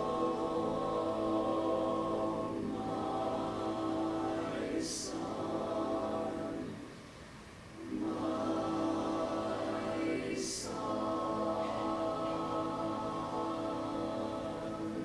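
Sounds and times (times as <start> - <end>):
mixed choir singing: 0.0 - 6.9, 7.8 - 15.0.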